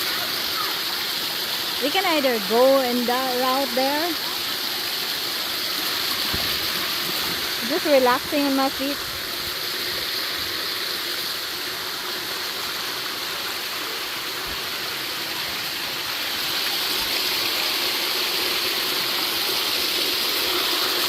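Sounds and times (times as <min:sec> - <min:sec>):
water rushing over rock: 0:00.0 - 0:21.0.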